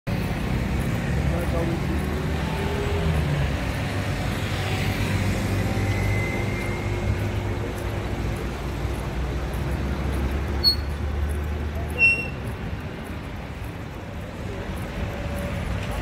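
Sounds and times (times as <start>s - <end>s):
road traffic rumble: 0.1s - 16.0s.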